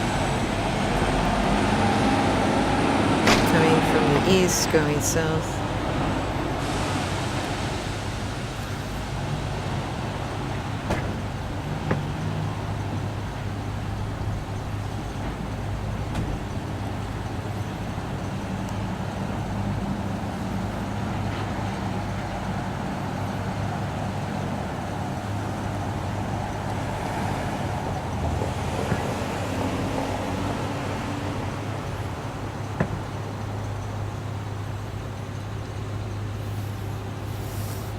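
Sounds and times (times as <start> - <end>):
truck engine drone: 0.0 - 37.9.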